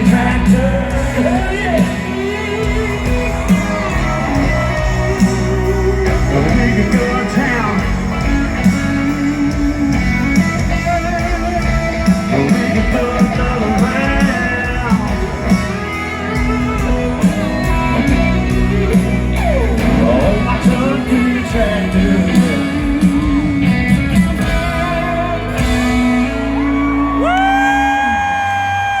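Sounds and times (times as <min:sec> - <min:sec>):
live country-rock band: 0:00.0 - 0:29.0.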